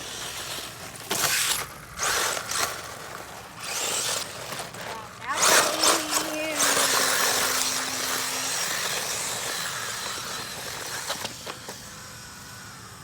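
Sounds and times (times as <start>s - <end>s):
tyres on gravel: 0.0s - 12.8s
toy truck motor whine: 0.0s - 13.0s.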